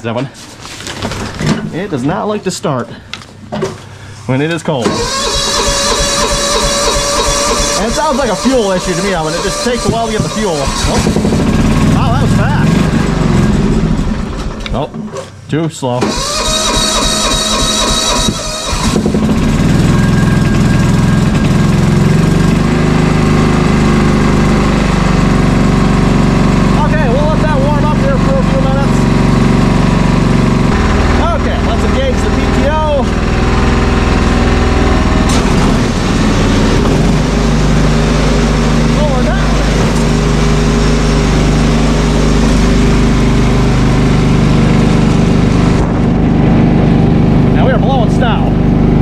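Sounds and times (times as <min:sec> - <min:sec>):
lawn tractor engine idling: 0:04.8 - 0:14.8, 0:16.0 - 0:49.0.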